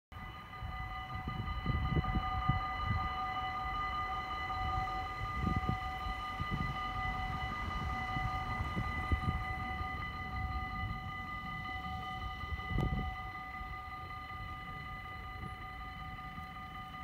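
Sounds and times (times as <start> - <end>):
steady high whine: 0.1 - 17.0
wind buffeting microphone: 0.2 - 17.0.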